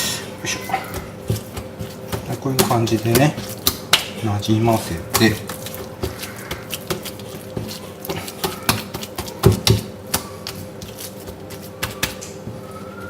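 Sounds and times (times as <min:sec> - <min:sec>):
hands tapping raw meat: 0:00.6 - 0:12.6.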